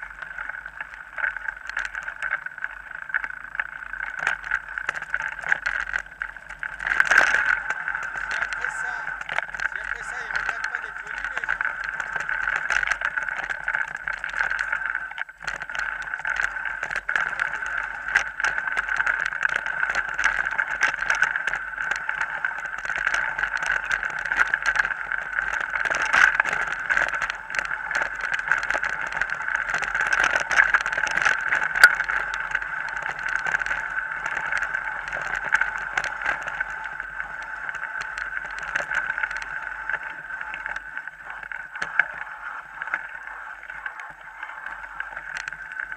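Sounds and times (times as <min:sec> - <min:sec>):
bike rattling over stones: 0:00.0 - 0:45.9
bike wheels whirring: 0:00.0 - 0:45.9.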